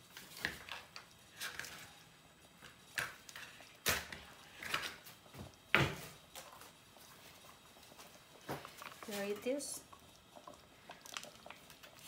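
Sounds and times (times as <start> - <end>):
cream sauce simmering: 0.0 - 12.0.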